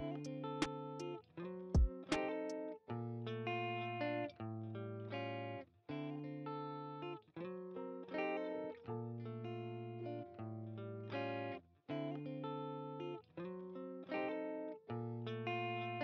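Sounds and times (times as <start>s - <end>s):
plucked guitar chords: 0.0s - 16.0s.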